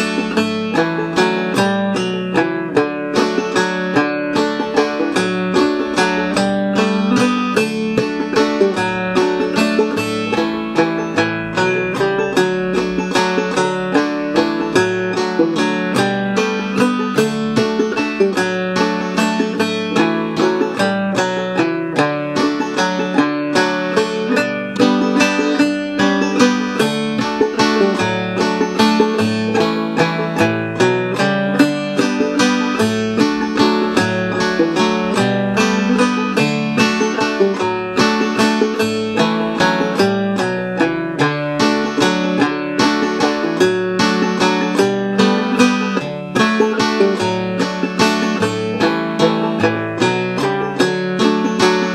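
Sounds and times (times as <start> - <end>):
backing guitar: 0.0 - 51.9
banjo playing a waltz: 0.0 - 51.9.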